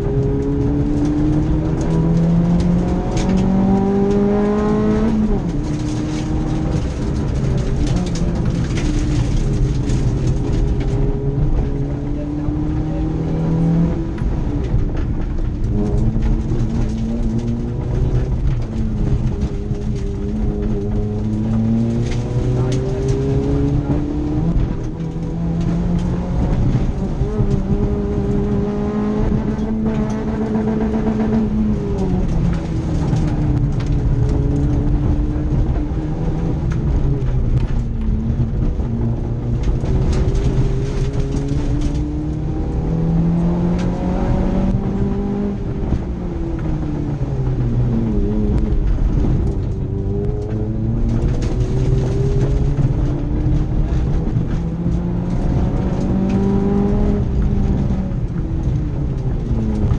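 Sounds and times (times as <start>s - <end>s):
rally car engine revving: 0.0s - 59.9s
road noise: 0.0s - 59.9s.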